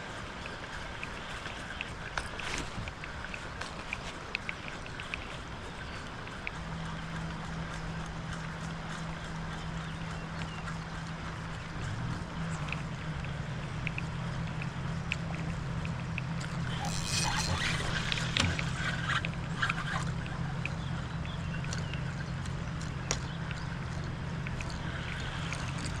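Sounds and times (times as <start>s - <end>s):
steady low hum: 0.0s - 26.0s
water splashing and dripping: 0.0s - 26.0s.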